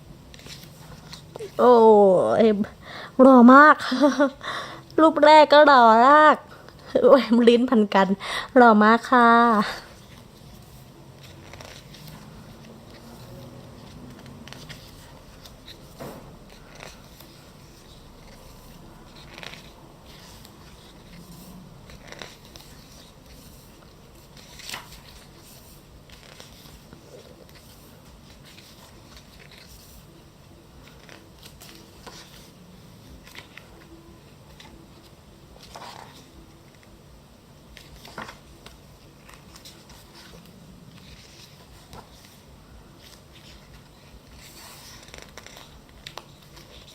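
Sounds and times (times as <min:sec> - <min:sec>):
low steady hum: 0:00.0 - 0:46.9
book pages turning: 0:00.3 - 0:01.8, 0:09.5 - 0:37.0, 0:37.6 - 0:46.9.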